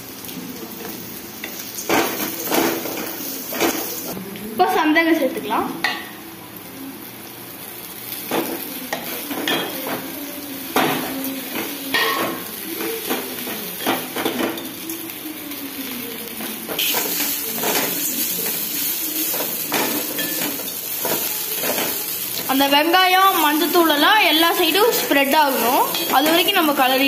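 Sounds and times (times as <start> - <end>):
oil sizzling: 0.0 - 27.0.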